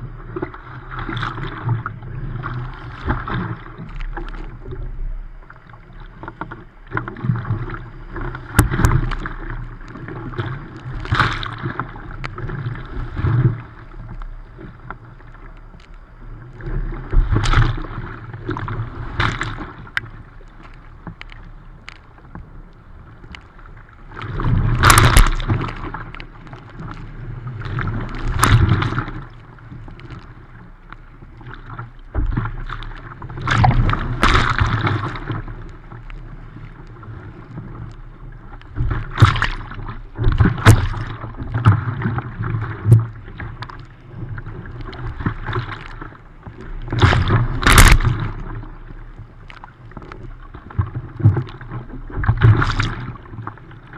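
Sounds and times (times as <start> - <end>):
surf washing over boat bow: 0.0 - 15.5, 16.2 - 21.2, 22.2 - 53.9.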